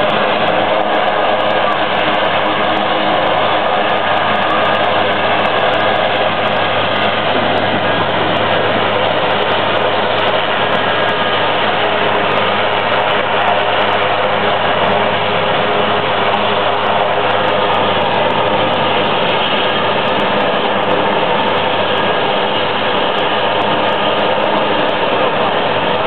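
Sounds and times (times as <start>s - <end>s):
helicopter engine running: 0.0s - 26.0s.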